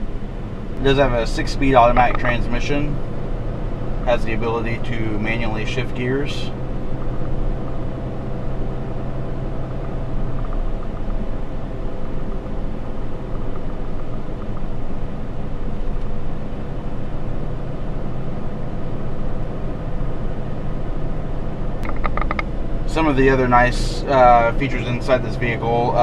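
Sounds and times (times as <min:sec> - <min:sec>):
diesel engine running: 0:00.0 - 0:26.0
low steady hum: 0:00.0 - 0:26.0
road and tyre noise: 0:00.0 - 0:26.0.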